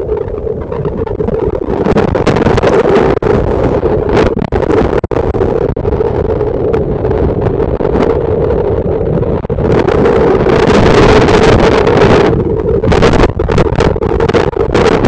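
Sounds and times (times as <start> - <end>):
steady hum: 0.0 - 15.0
wind: 0.0 - 15.0.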